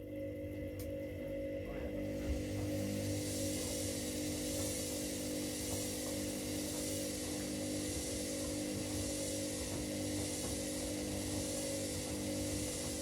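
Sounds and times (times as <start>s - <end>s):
washing machines running: 0.0s - 13.0s.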